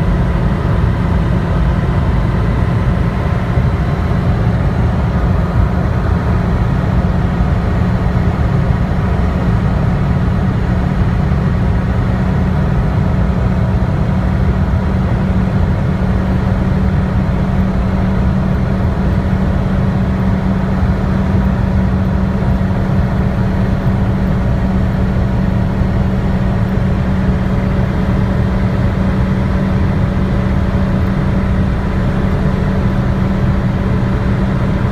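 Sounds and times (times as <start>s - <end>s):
car engine running hard: 0.0s - 34.9s
heavy road noise: 0.0s - 34.9s.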